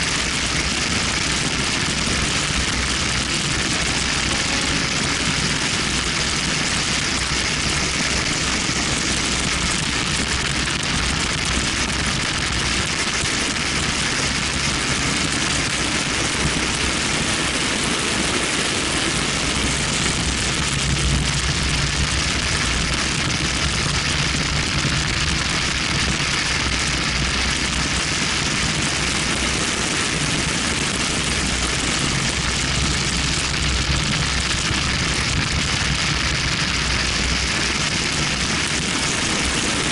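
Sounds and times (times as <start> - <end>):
car engine running low: 0.0 - 39.9
road noise: 0.0 - 39.9.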